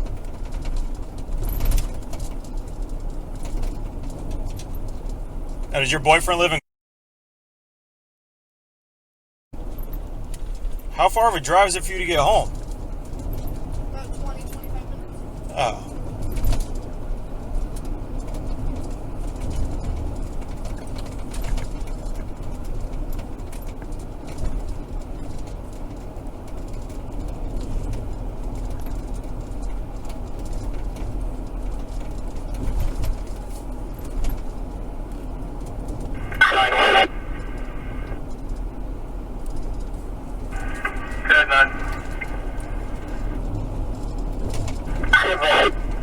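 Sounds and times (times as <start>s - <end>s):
car engine rumble from inside: 0.0s - 6.6s, 9.6s - 46.0s.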